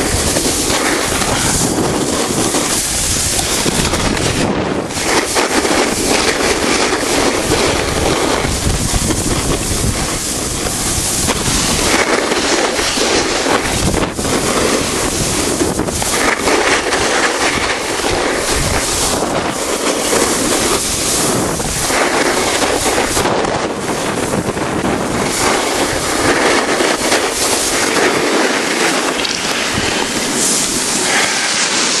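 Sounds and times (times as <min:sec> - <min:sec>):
snowboard scraping on snow: 0:00.0 - 0:32.0
wind rushing over microphone: 0:00.0 - 0:32.0.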